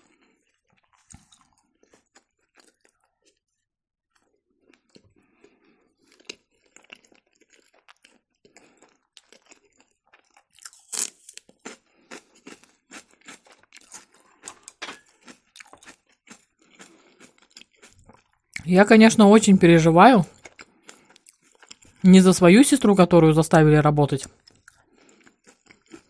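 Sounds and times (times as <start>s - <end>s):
crisp celery crunching: 0.0s - 3.4s, 4.1s - 22.0s, 23.1s - 26.0s.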